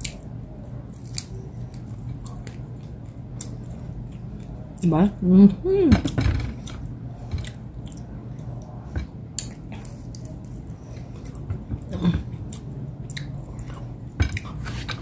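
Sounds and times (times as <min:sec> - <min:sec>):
faint low hum: 0:00.0 - 0:15.0
person chewing: 0:00.9 - 0:04.8, 0:06.6 - 0:14.9.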